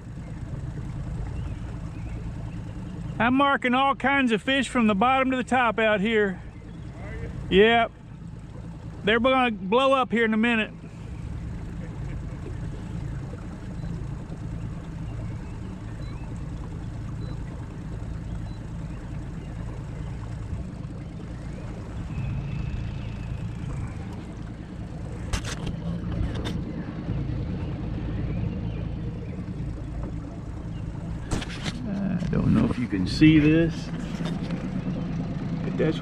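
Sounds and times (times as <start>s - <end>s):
boat motor rumbling: 0.0s - 36.0s.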